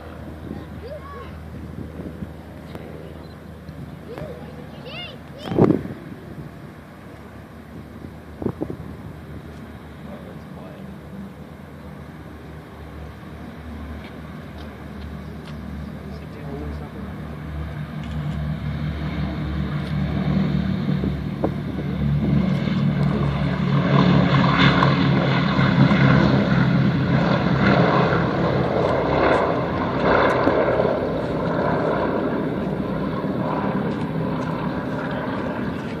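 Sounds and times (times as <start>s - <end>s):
propeller aircraft engines droning: 0.0s - 36.0s.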